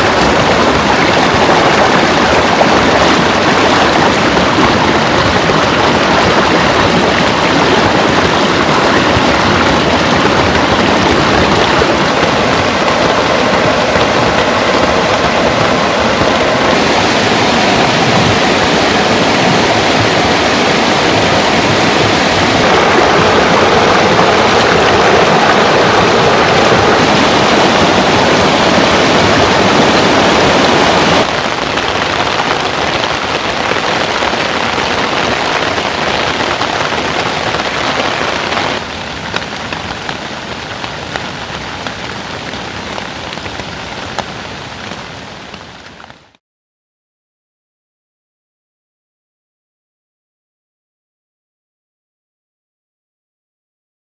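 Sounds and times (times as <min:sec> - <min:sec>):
heavy rain: 0:00.0 - 0:46.4
rainwater rushing: 0:00.0 - 0:46.4.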